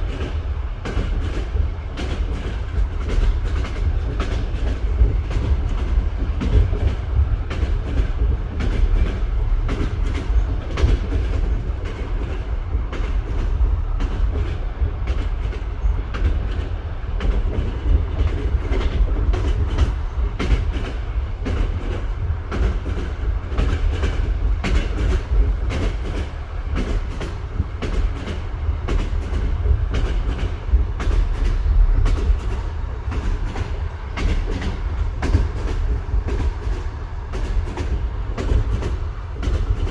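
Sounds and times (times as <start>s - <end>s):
low train rumble: 0.0s - 39.9s
train wheels clickety-clack: 0.0s - 39.9s.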